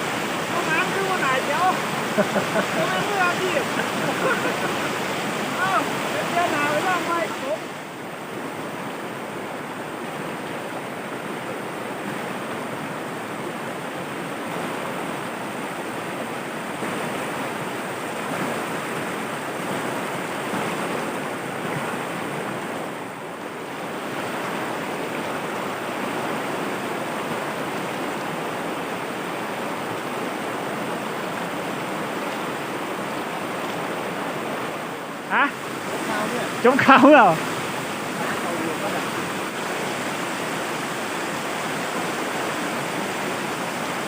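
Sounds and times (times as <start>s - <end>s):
water rushing over rapids: 0.0s - 44.0s.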